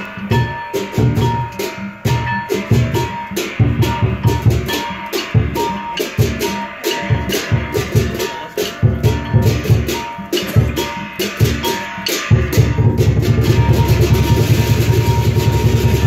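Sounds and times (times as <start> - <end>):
cymbals clashing: 0.0 - 16.0
large drum struck in clusters: 0.0 - 16.0.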